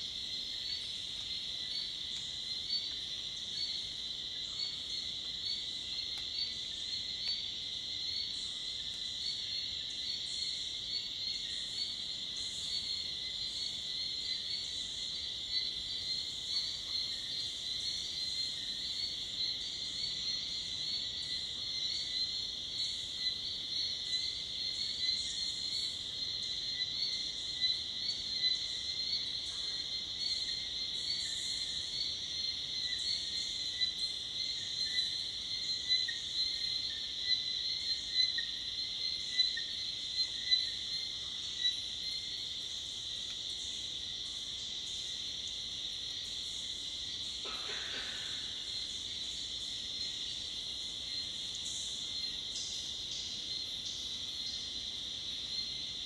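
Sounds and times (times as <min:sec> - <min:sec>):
insects droning: 0:00.0 - 0:56.0
loud insect chirps: 0:00.0 - 0:56.0.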